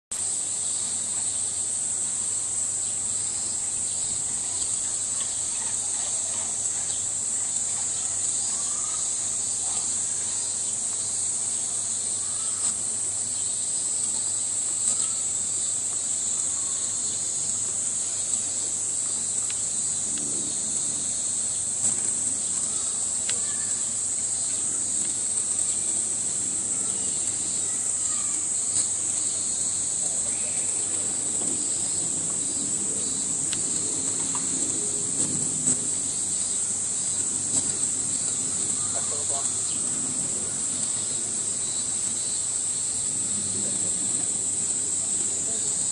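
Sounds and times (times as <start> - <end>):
cicadas chorus: 0.1 - 45.9.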